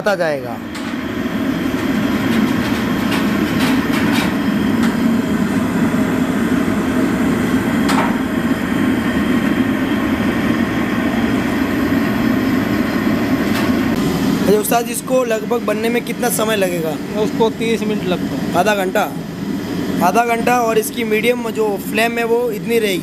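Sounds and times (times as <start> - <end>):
gas burner flame roaring: 0.0 - 23.0.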